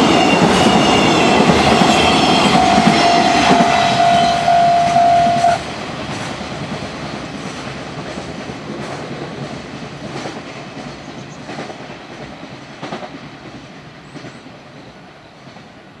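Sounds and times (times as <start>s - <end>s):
wheels clacking at rail joints: 0.0s - 15.7s
train wheels rumbling: 0.0s - 15.8s.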